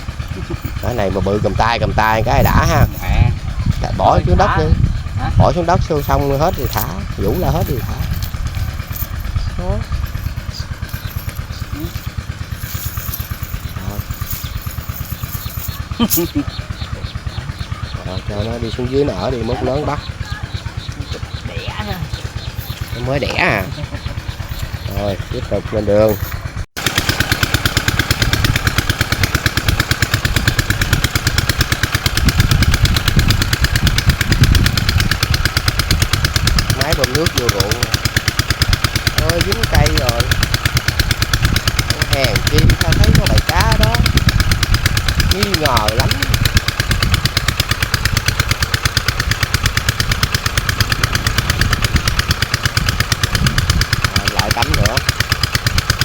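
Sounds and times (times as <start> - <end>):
small engine chugging: 0.0 - 56.0.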